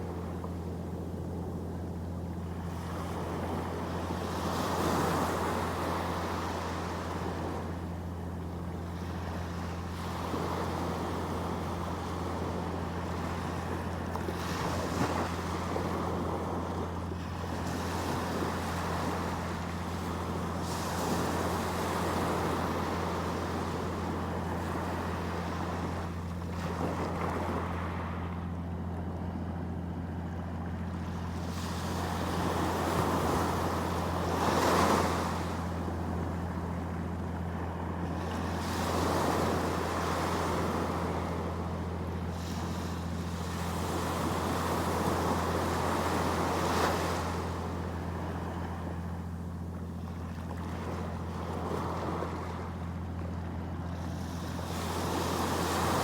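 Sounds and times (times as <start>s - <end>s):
sea waves breaking on shore: 0.0s - 56.0s
steady low hum: 0.0s - 56.0s.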